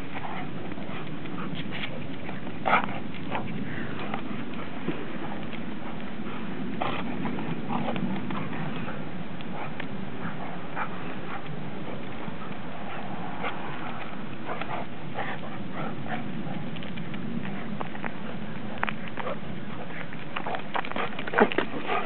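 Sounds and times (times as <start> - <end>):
background hiss: 0.0 - 22.0
dog noises: 0.0 - 22.0
dogs scuffling: 0.0 - 22.0.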